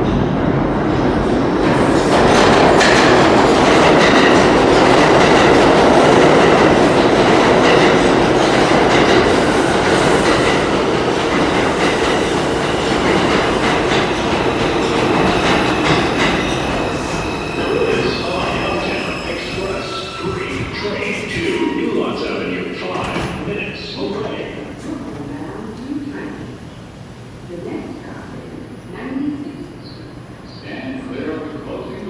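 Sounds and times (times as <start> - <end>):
subway train arriving: 0.0 - 32.0.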